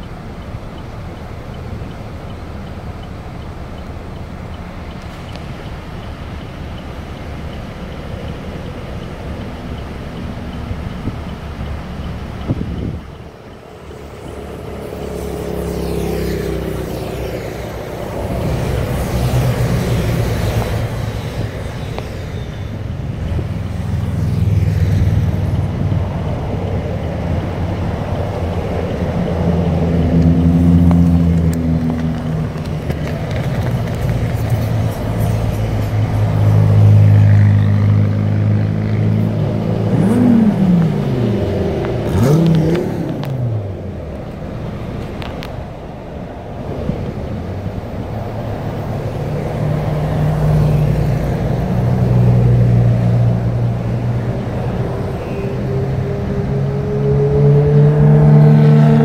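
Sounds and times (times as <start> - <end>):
highway traffic passing: 0.0 - 59.0
vehicle passing close: 8.6 - 59.0.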